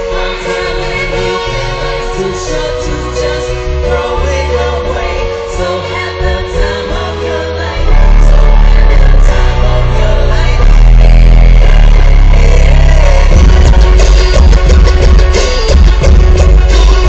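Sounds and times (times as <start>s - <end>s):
heavy bass: 0.0s - 17.0s
live pop music with singing: 0.0s - 17.0s.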